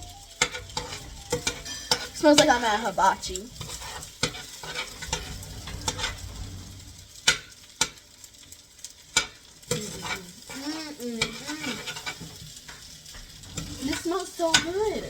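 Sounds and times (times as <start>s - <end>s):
rice sizzling in a pan: 0.0s - 15.0s
utensil scraping a pan: 0.1s - 15.0s.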